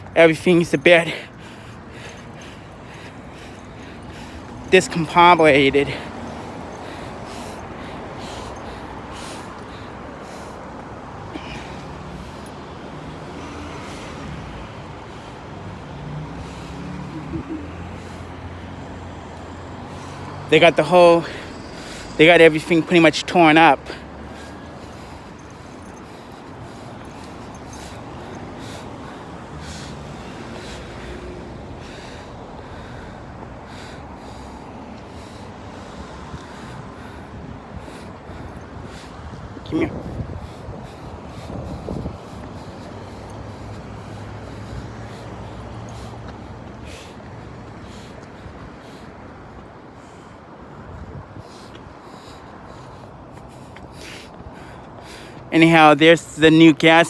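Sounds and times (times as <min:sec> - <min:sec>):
heavy vehicle engine hum: 0:00.0 - 0:57.0
passing motor vehicles: 0:00.0 - 0:57.0
traffic noise: 0:00.0 - 0:57.0
wind: 0:00.0 - 0:57.0.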